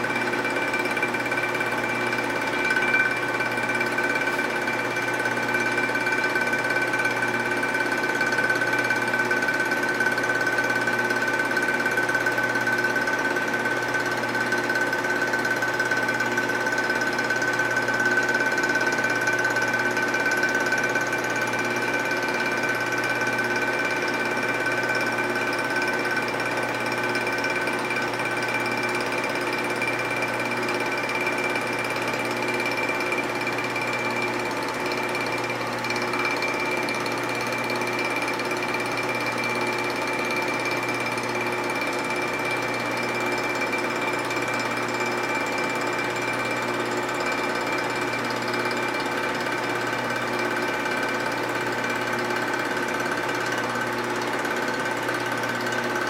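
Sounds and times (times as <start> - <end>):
milling machine cutting metal: 0.0 - 56.0.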